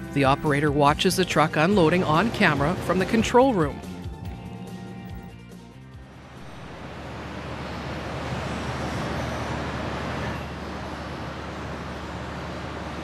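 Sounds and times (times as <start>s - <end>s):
industrial machinery rushing noise: 0.0s - 4.0s, 6.1s - 13.0s
low machinery hum: 0.0s - 13.0s.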